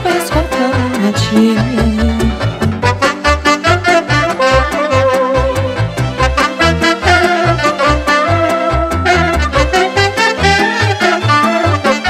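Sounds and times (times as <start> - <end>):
saxophone melody: 0.0 - 12.0
bass alternating two notes: 0.8 - 12.0.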